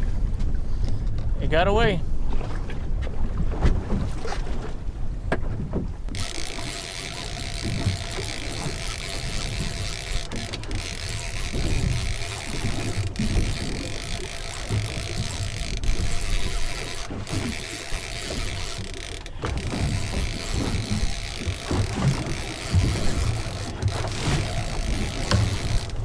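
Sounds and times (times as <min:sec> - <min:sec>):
wind on microphone: 0:00.0 - 0:26.0
water slapping boat hull: 0:02.2 - 0:26.0.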